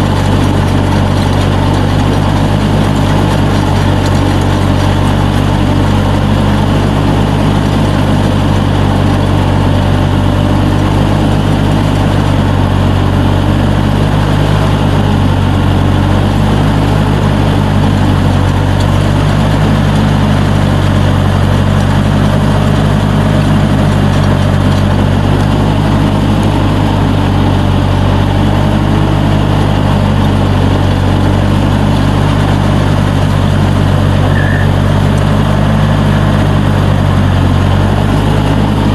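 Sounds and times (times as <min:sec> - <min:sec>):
riding lawnmower engine running: 0:00.0 - 0:38.9.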